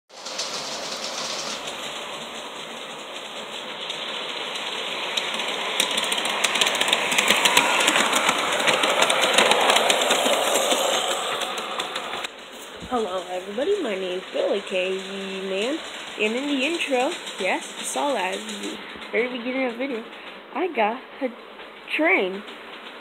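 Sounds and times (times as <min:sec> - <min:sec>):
wheels clicking on rails: 0:00.1 - 0:23.0.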